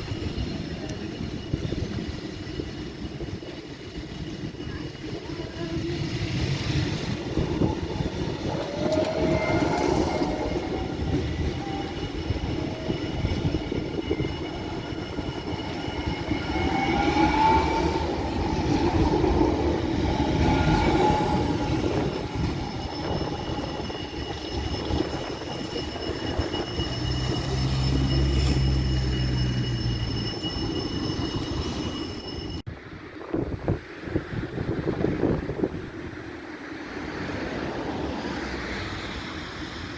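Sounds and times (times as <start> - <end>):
high squealing tones: 0.0 - 32.7
tram motor whine: 0.0 - 32.7
tram wheels rumbling on track: 0.0 - 39.9.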